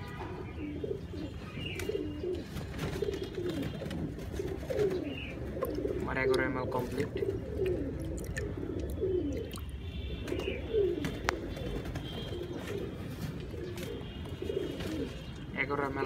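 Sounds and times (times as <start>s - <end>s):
pigeons cooing: 0.6s - 15.3s.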